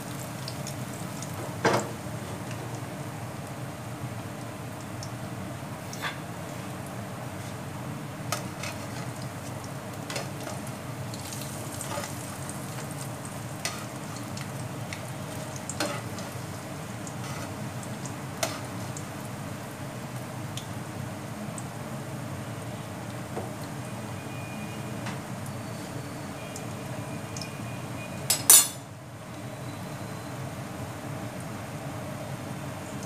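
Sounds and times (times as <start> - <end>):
oil sizzling and bubbling: 0.0 - 33.0.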